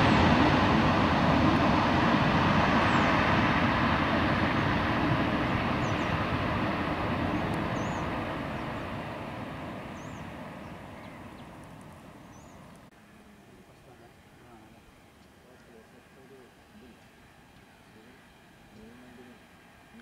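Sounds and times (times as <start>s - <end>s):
jet engines rolling down runway: 0.0s - 20.0s.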